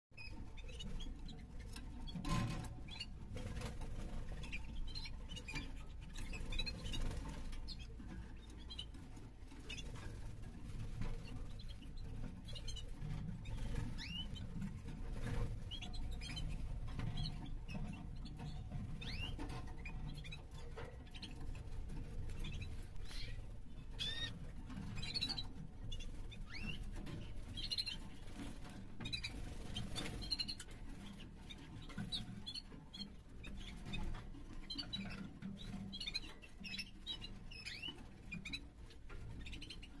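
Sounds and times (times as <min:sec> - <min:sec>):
canaries chirping and twittering: 0:00.2 - 0:40.0.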